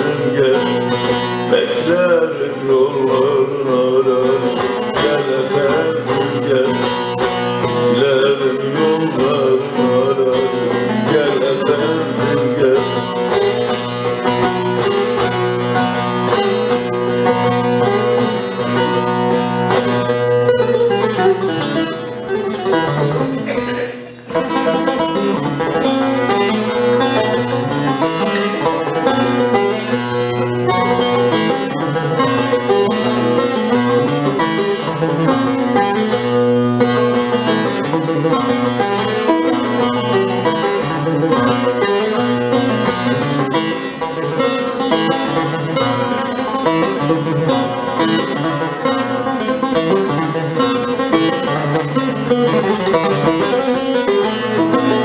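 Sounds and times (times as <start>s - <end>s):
plucked long-necked lute melody: 0.0s - 55.0s.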